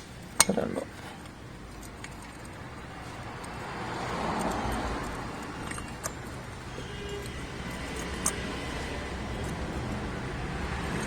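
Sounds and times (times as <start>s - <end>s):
passing vehicle: 0.0s - 11.0s
small clicks: 0.0s - 11.0s
metallic clinks of hand tools: 0.3s - 11.0s.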